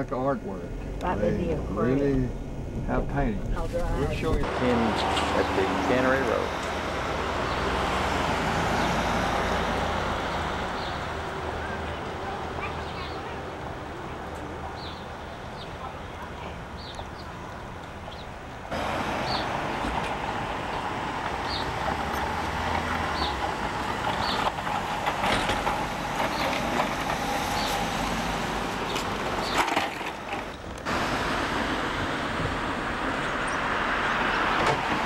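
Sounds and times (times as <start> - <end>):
car engine and road noise: 0.0 - 35.0.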